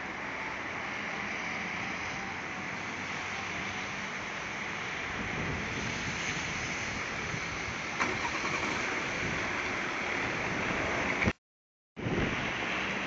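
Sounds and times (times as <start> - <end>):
traffic on wet roads: 0.0 - 11.4, 12.0 - 13.0
wind: 0.0 - 11.4, 12.0 - 13.0.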